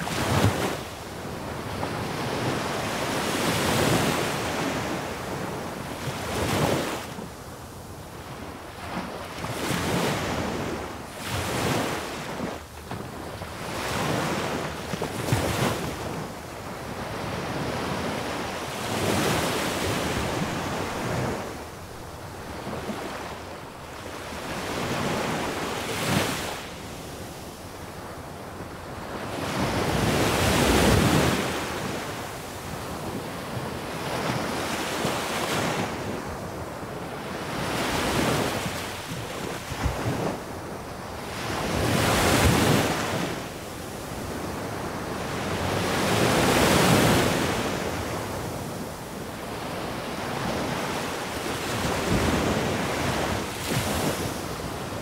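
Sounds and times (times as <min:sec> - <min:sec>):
small waves breaking on beach: 0:00.0 - 0:55.0.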